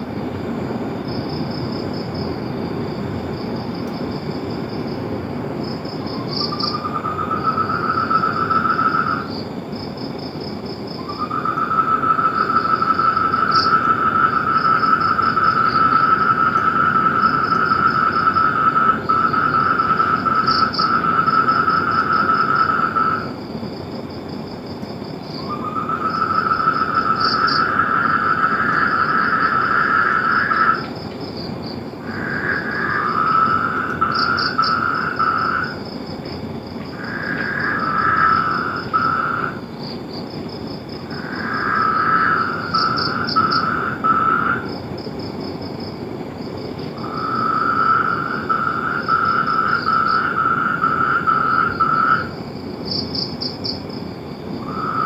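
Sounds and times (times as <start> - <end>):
constant hiss: 0.0 - 55.0
frogs and insects trilling: 0.0 - 55.0.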